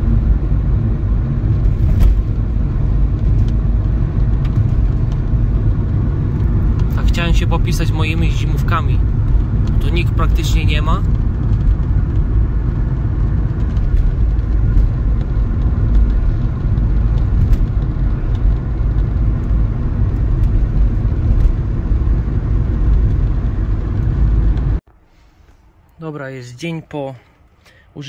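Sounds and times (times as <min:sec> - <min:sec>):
tyres on wet road: 0:00.0 - 0:24.8
car engine rumble inside cabin: 0:00.0 - 0:25.0.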